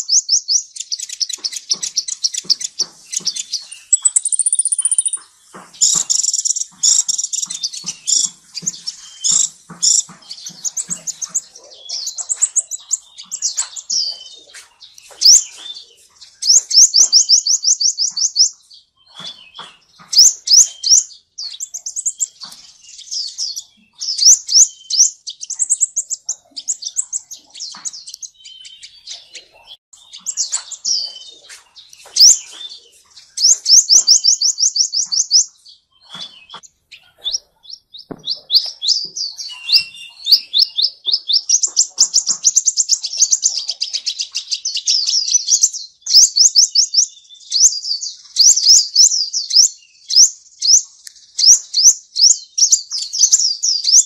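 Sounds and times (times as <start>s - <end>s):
birds twittering: 0.0s - 54.0s.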